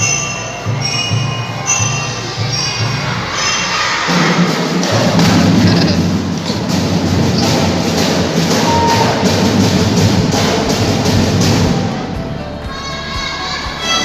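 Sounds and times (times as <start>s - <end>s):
marching drum band playing: 0.0s - 14.0s.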